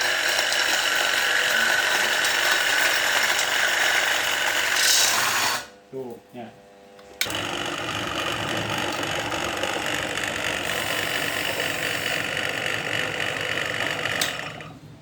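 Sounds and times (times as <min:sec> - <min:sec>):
coffee grinder whirring: 0:00.0 - 0:05.7, 0:07.2 - 0:14.8.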